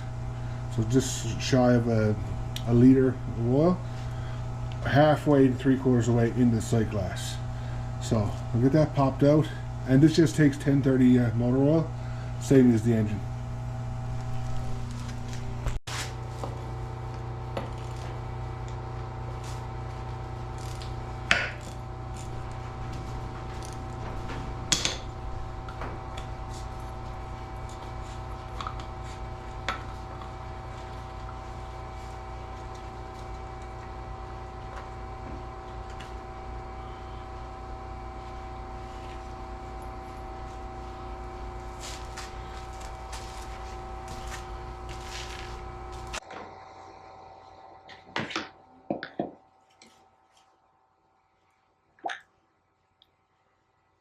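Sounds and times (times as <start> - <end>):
machinery humming: 0.0 - 48.8.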